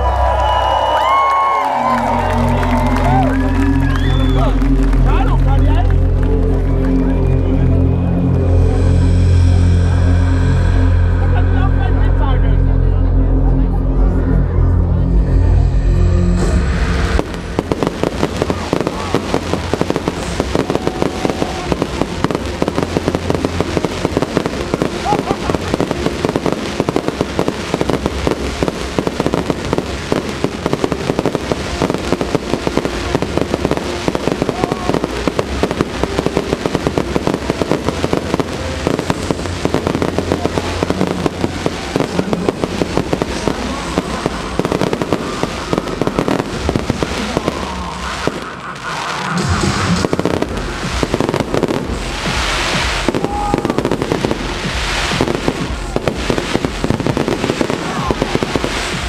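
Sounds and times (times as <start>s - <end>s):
fireworks popping and crackling: 0.0s - 7.1s, 16.9s - 59.0s
music soundtrack: 0.0s - 59.0s.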